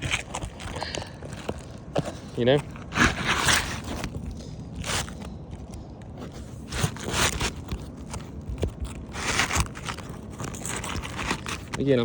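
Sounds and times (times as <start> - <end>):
roofing shingles scraping: 0.0 - 5.3, 6.2 - 12.0.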